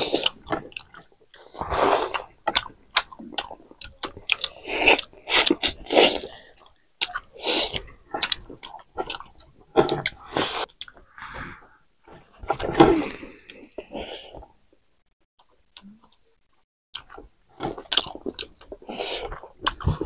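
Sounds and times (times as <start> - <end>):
people chewing food: 0.0 - 20.0.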